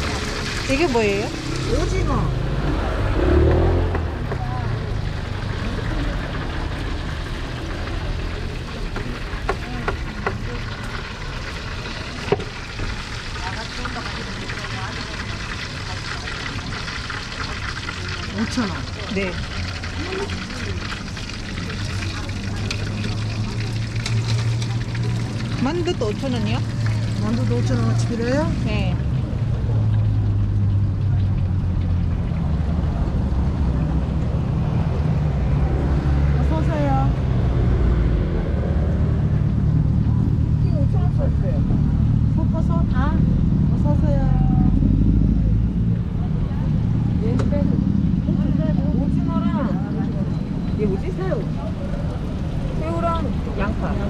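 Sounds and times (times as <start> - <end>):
street market rumble: 0.0 - 54.0.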